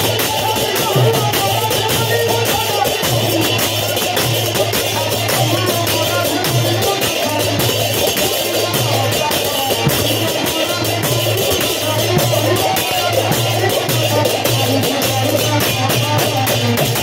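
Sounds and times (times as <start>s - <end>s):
barrel drum beat: 0.0s - 17.0s
man singing into microphone: 0.0s - 17.0s
small hand cymbals: 0.0s - 17.0s.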